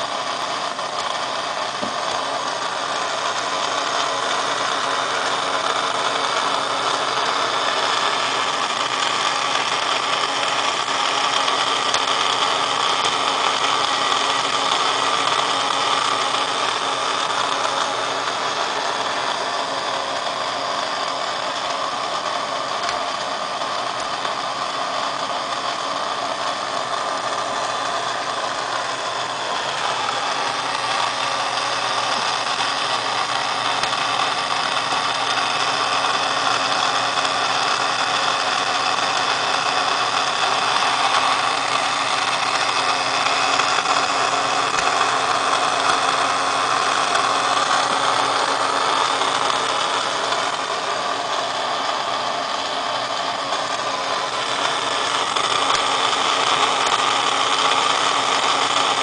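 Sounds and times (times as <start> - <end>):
toy motor whirring and rattling: 0.0 - 59.0.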